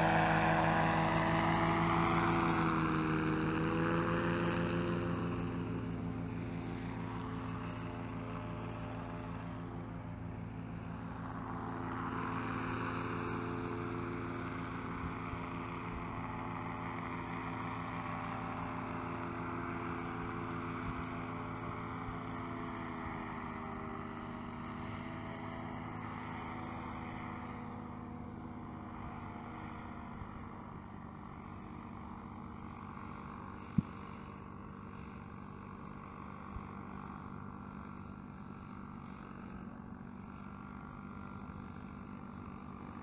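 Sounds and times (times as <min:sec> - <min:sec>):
paramotor engine droning overhead: 0:00.0 - 0:43.0.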